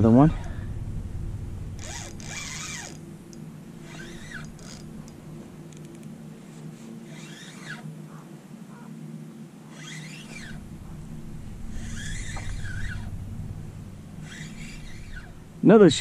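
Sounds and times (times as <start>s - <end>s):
fishing reel whirring: 0.0s - 8.0s, 9.7s - 16.0s
low steady hum: 0.0s - 16.0s.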